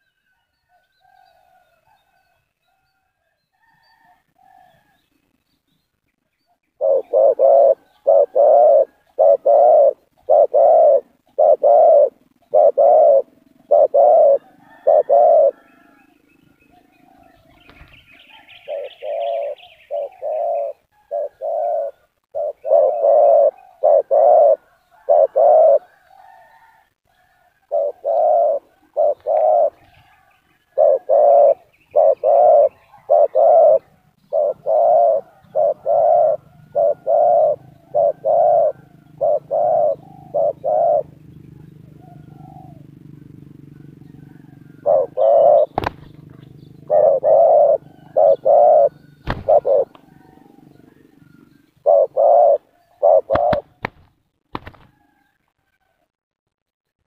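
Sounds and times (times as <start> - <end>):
doves cooing: 6.8 - 56.0.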